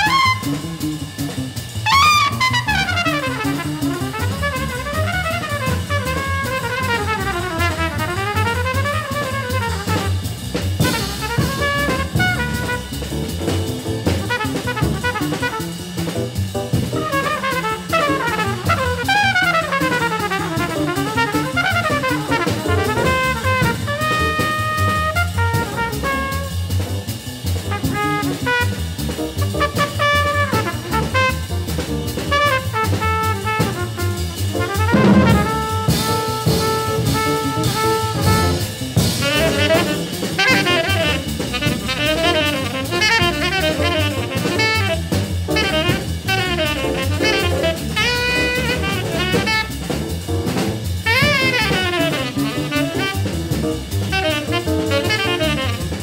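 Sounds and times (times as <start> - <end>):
trumpet solo: 0.0 - 1.0, 1.8 - 13.3, 14.0 - 16.2, 16.8 - 26.7, 27.7 - 50.3, 51.0 - 56.0
piano: 0.0 - 10.2, 10.8 - 56.0
double bass: 0.0 - 56.0
drum kit: 0.0 - 56.0.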